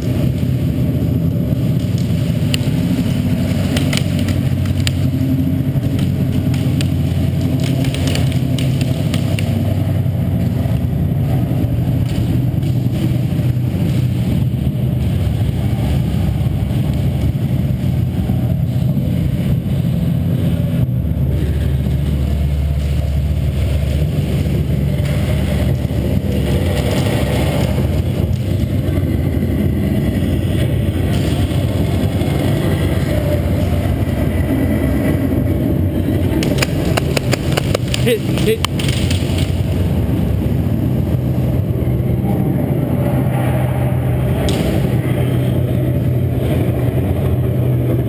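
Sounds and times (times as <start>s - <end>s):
low mechanical drone: 0.0s - 48.0s.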